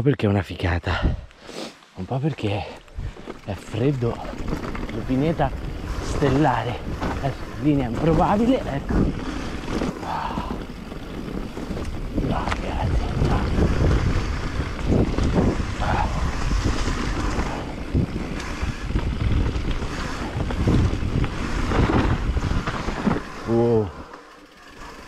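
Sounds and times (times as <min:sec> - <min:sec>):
tyres rumbling on dirt trail: 0:02.0 - 0:25.0
wind buffeting microphone: 0:02.8 - 0:24.0
bike knocks and rattles: 0:03.0 - 0:25.0.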